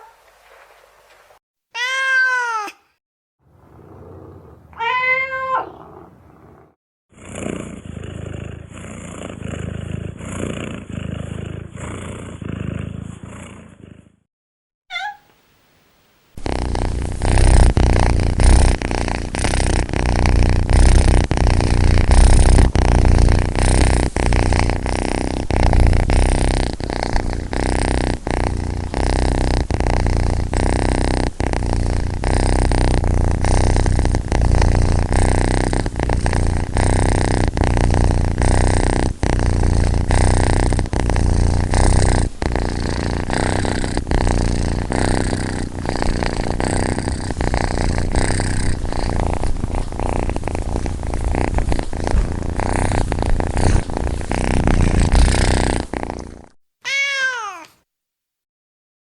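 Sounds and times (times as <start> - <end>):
cat purring: 0.0 - 1.4, 3.5 - 14.3, 14.9 - 57.8.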